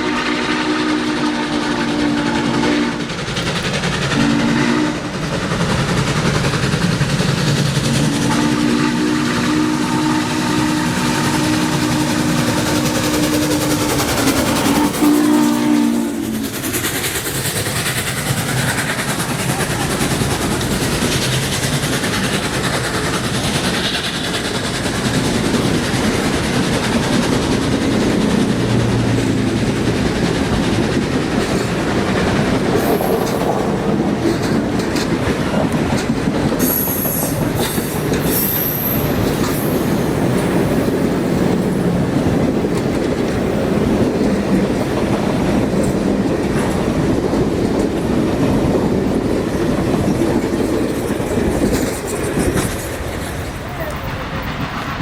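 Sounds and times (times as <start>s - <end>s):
train wheels clattering over rails: 0.0s - 55.0s.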